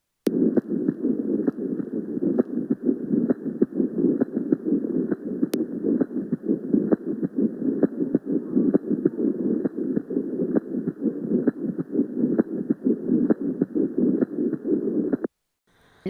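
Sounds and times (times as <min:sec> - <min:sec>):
faint heartbeat clicks: 0:00.3 - 0:15.3.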